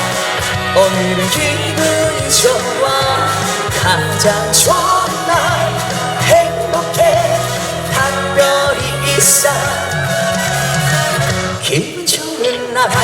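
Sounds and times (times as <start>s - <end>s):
steady bass line: 0.0s - 11.7s
backing band playing: 0.0s - 13.0s
person singing with vibrato: 0.0s - 13.0s.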